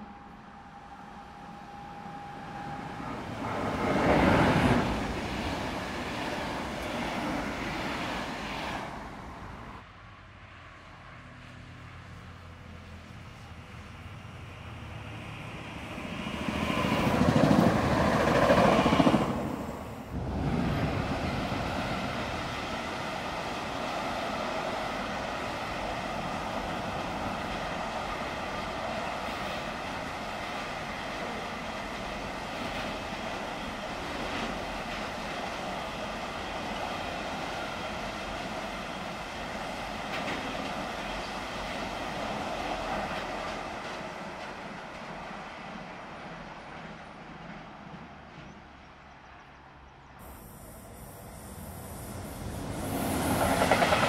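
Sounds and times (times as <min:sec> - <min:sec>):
freight train rolling past: 0:00.0 - 0:09.9, 0:11.1 - 0:54.0
passenger train passing: 0:00.0 - 0:54.0.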